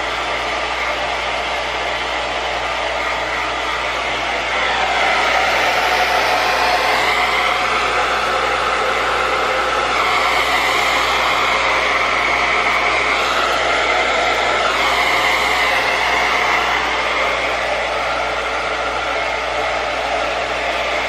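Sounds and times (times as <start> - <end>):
hair dryer whirring: 0.0 - 21.0.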